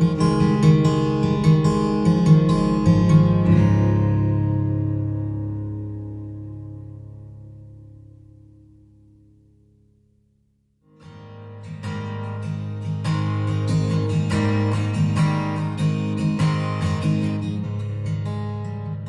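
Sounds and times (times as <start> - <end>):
acoustic guitar strumming: 0.0 - 10.1, 10.9 - 19.0.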